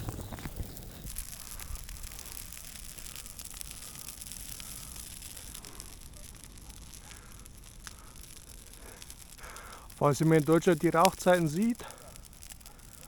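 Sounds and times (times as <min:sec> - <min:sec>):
bonfire hissing and crackling: 0:00.0 - 0:13.0.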